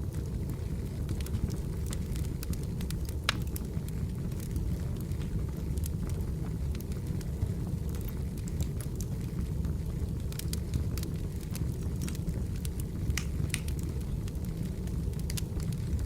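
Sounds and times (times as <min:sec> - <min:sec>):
firewood crackling and popping: 0:00.0 - 0:16.0
wood fire rumbling: 0:00.0 - 0:16.0.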